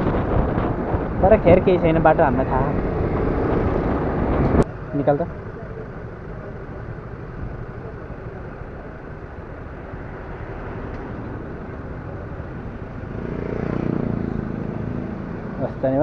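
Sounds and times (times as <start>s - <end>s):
road and engine noise: 0.0s - 16.0s
vehicle passing: 0.0s - 16.0s.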